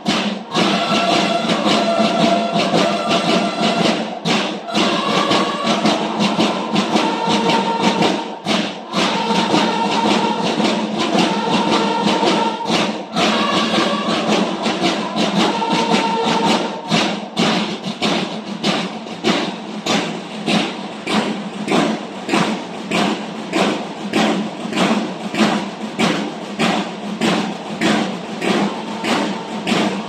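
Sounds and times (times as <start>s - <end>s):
snare drums marching beat: 0.0s - 30.0s.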